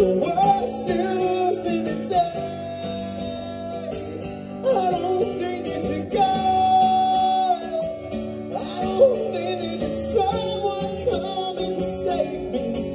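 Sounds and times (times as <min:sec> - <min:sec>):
man singing: 0:00.0 - 0:12.9
strummed acoustic guitars: 0:00.0 - 0:12.9.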